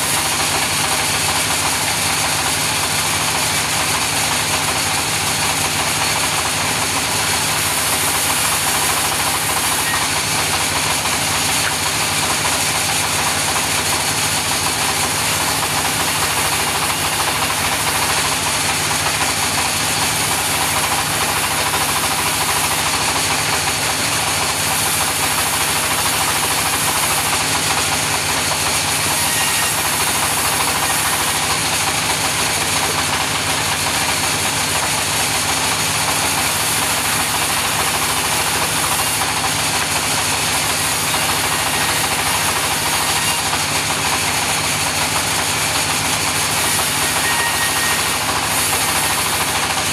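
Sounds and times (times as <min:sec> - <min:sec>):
sawmill saw running: 0:00.0 - 0:49.9.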